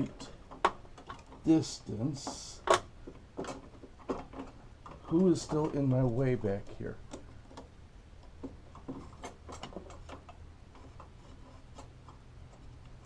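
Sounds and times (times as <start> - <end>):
low steady hum: 0.0 - 13.0
light clicks and taps of metal: 0.2 - 13.0.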